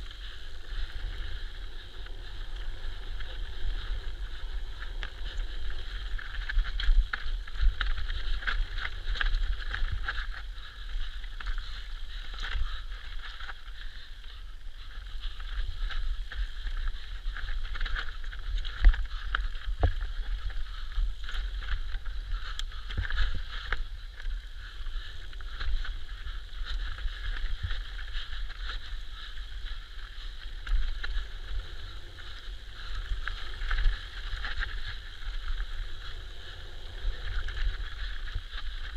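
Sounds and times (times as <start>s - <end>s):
bike rattling over bumps: 0.0s - 38.9s
wind rumble on microphone: 0.0s - 38.9s.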